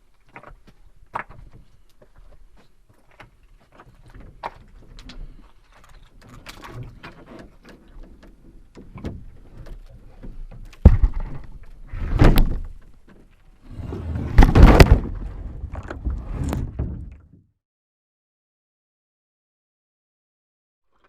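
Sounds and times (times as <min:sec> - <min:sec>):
canoe knocking and scraping: 0:00.3 - 0:17.5.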